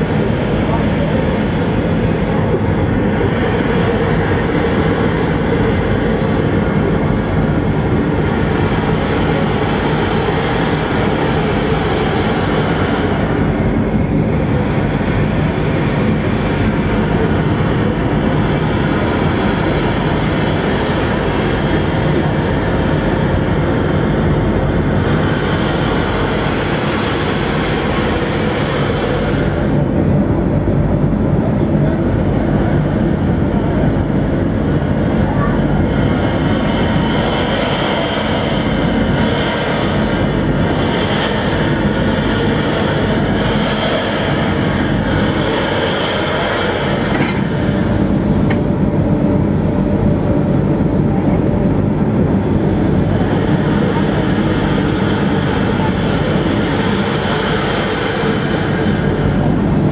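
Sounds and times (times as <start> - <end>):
diesel locomotive running: 0.0 - 59.9
steam locomotive rumble and hiss: 0.0 - 59.9.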